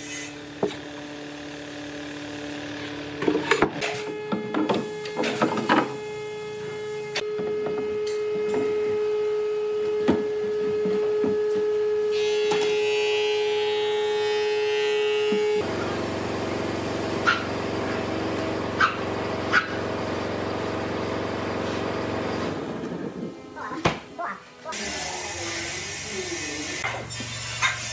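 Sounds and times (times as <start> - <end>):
woodworking power tool hum: 0.0 - 23.6, 24.5 - 27.9.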